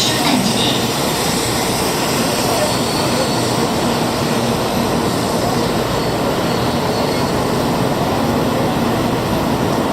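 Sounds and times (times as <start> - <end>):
train rushing past platform: 0.0 - 9.9.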